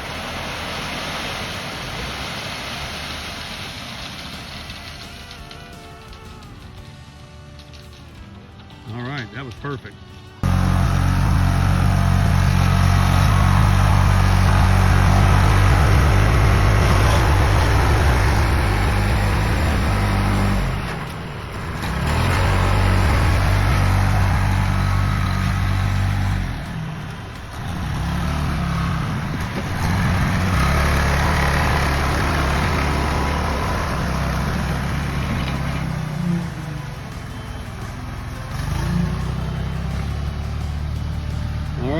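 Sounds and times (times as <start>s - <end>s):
vehicle engine under load: 0.0s - 6.8s, 10.4s - 41.9s.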